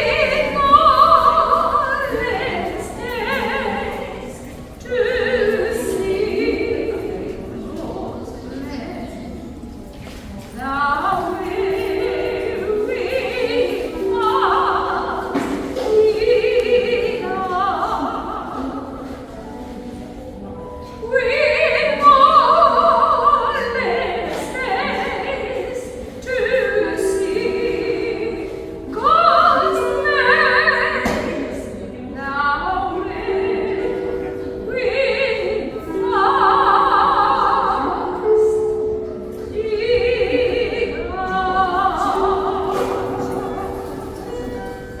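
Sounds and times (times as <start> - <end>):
person singing with vibrato: 0.0 - 9.3, 10.5 - 45.0.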